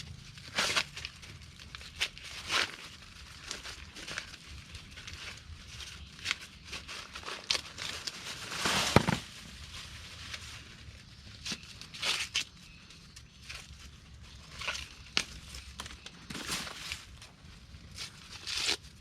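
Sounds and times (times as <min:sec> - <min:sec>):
dry corn leaves rustling: 0:00.1 - 0:19.0.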